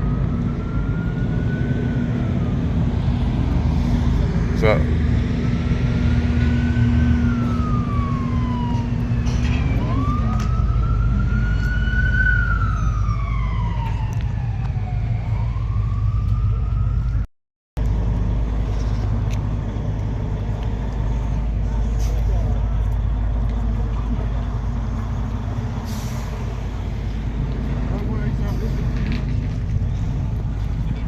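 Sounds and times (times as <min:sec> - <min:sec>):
emergency vehicle siren wailing: 0:00.0 - 0:31.0
low rumble of traffic: 0:00.0 - 0:31.0.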